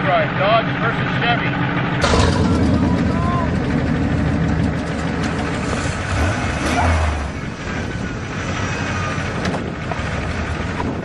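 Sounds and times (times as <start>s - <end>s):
car engines idling: 0.0s - 11.0s
deep engine rumble: 0.0s - 11.0s.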